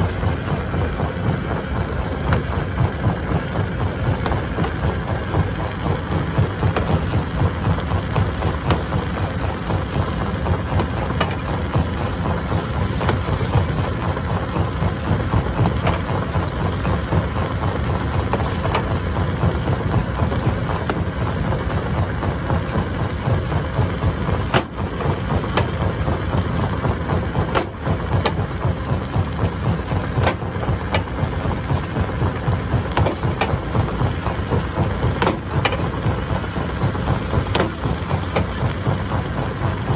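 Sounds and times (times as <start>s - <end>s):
stone crusher rumbling: 0.0s - 39.9s.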